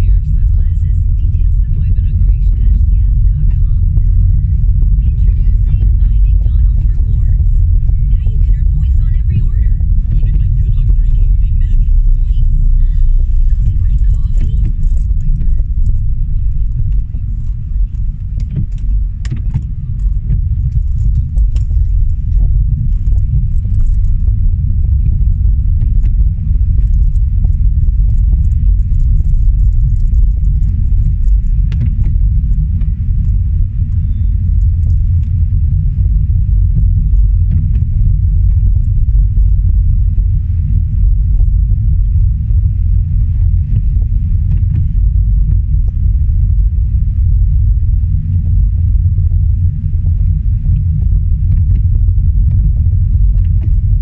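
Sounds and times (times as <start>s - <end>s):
car driving rumble: 0.0s - 54.0s
faint clicks and ticks: 0.1s - 54.0s.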